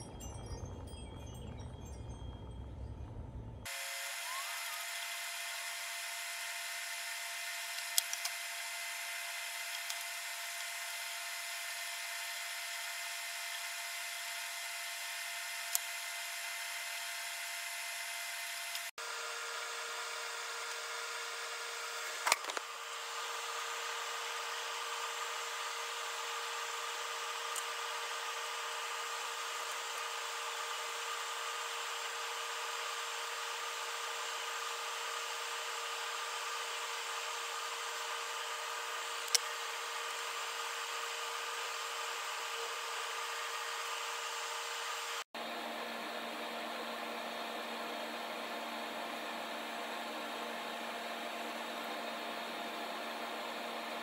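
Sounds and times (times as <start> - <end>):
machine humming: 0.0 - 50.8.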